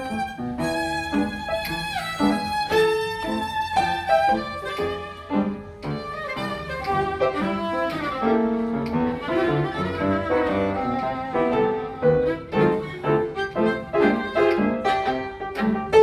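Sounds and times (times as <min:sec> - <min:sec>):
piano notes and chords: 0:00.0 - 0:16.0
violin melody: 0:00.0 - 0:16.0.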